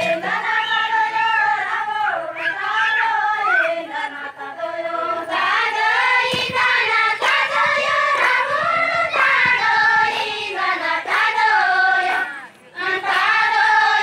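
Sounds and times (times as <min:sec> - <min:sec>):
women singing in unison: 0:00.0 - 0:14.0.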